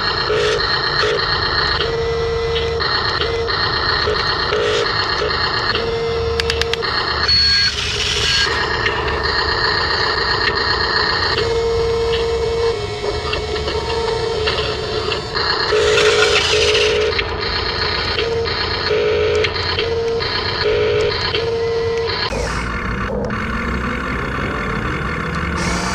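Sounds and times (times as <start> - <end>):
electric motors whining: 0.0 - 25.9
steady low hum: 0.0 - 25.9.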